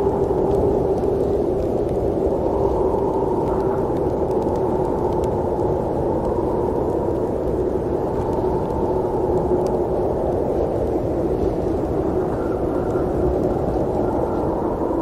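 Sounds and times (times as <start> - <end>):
faint ticks: 0.0 - 14.6.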